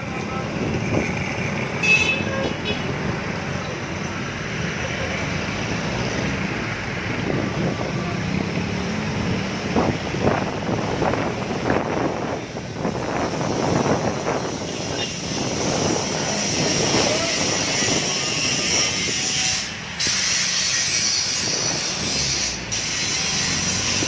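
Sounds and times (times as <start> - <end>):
road and traffic noise: 0.0 - 24.0.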